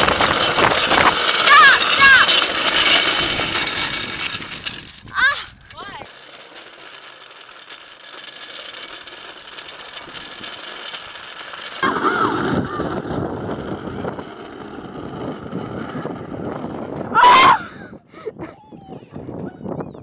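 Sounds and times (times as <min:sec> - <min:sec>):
plastic wheels grinding over asphalt: 0:00.0 - 0:17.8.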